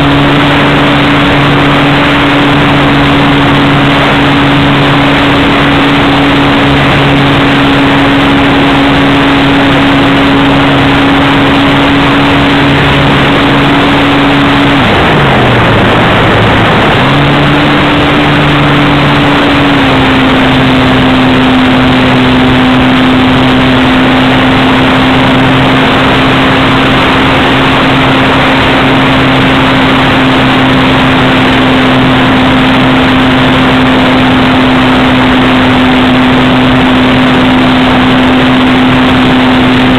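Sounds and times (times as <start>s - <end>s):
model airplane motor humming: 0.0s - 39.9s
wind rush: 0.0s - 39.9s.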